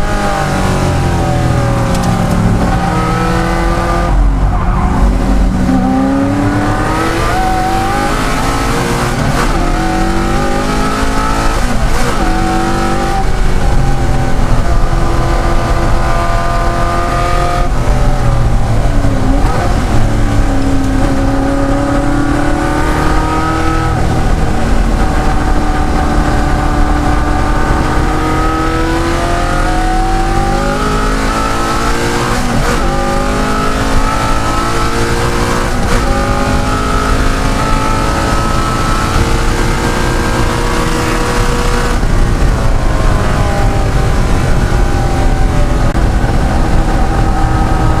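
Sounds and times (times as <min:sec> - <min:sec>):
racing engine accelerating: 0:00.0 - 0:48.0.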